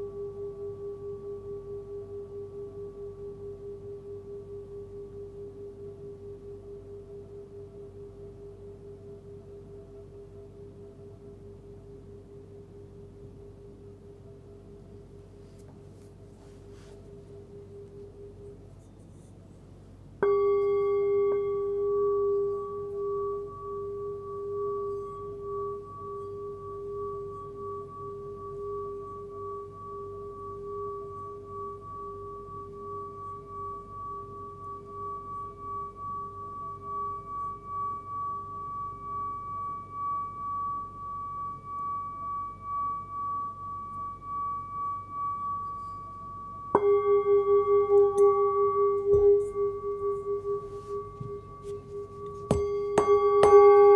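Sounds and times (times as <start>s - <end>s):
singing bowl ringing: 0.0s - 15.1s, 16.4s - 19.4s, 20.2s - 53.9s.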